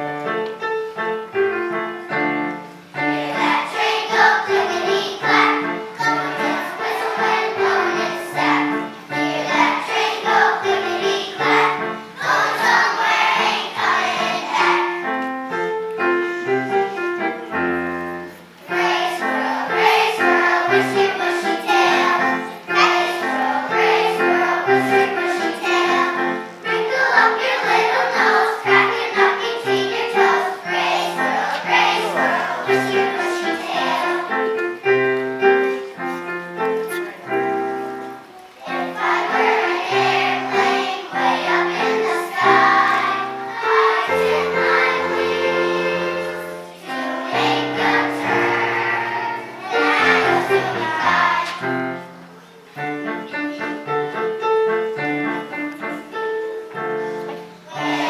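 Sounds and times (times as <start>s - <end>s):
children's choir singing: 0.0s - 58.0s
keyboard accompaniment: 0.0s - 58.0s.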